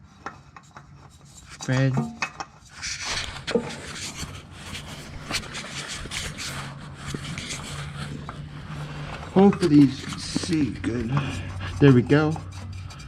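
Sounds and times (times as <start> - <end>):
oil filter scraping on thread: 0.0 - 13.0.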